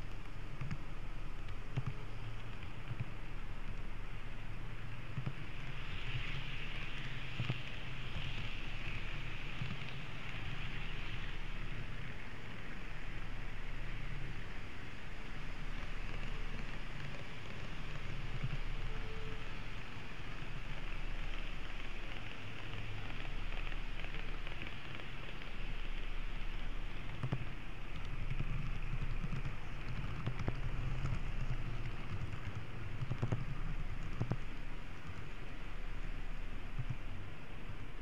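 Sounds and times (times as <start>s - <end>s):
model train whirring: 1.0s - 37.9s.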